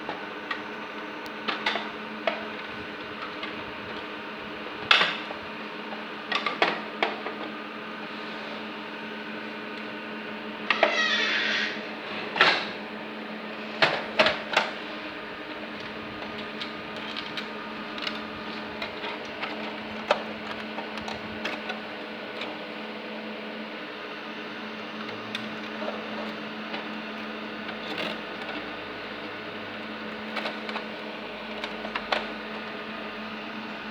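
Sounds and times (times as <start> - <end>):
steady electrical hum: 0.0 - 33.9.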